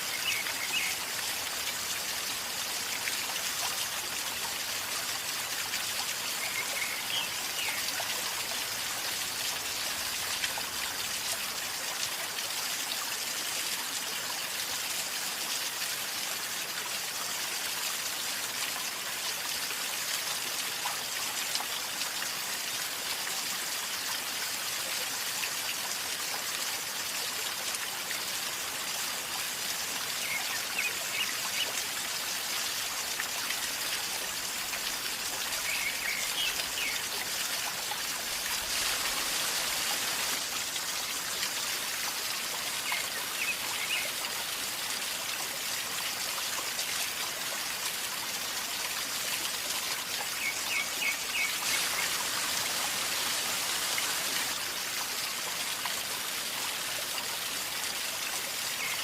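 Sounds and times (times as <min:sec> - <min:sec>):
river water gurgling: 0:00.0 - 0:15.4, 0:16.0 - 0:59.0.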